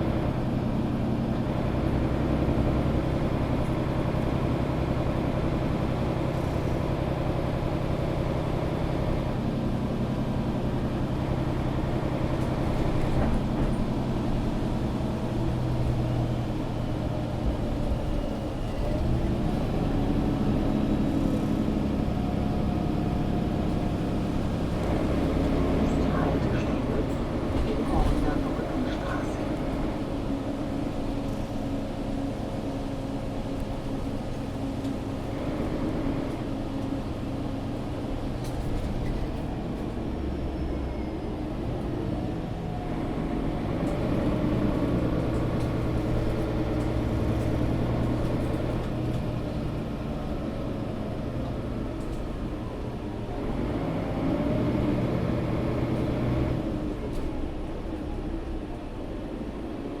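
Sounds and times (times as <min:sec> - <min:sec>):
bus engine and road noise: 0:00.0 - 1:00.0.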